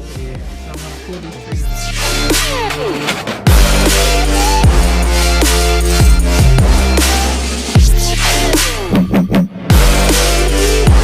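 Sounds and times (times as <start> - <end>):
electronic hip-hop music: 0.0 - 11.0.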